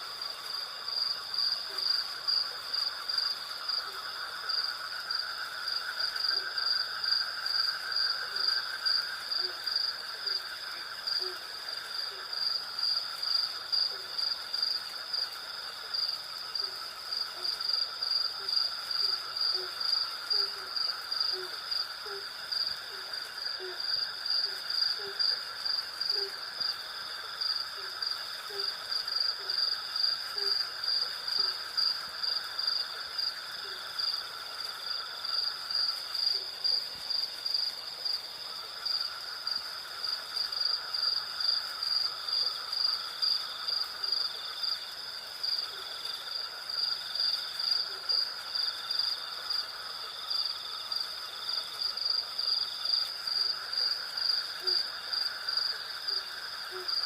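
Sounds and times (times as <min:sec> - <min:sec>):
crickets trilling: 0:00.0 - 0:57.0
insects chirring: 0:00.0 - 0:57.0.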